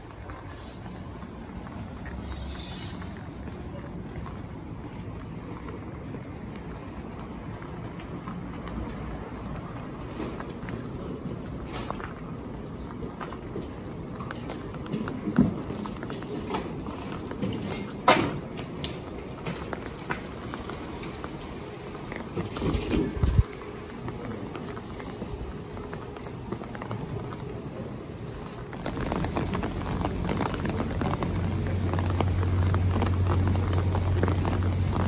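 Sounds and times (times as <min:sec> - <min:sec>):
footsteps on wet pavement: 0:00.0 - 0:35.0
light rain: 0:00.0 - 0:35.0.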